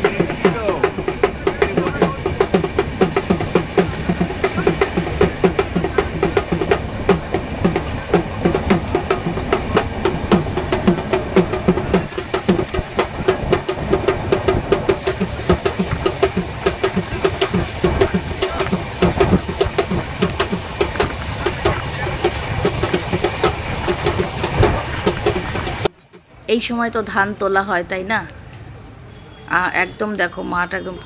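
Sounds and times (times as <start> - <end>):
hand drum beating: 0.0 - 25.9
train carriage rumble: 0.0 - 28.2.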